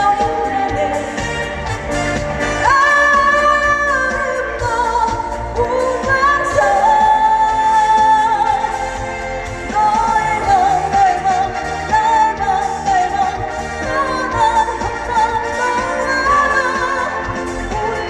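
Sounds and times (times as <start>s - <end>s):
live pop-rock band: 0.0s - 18.0s.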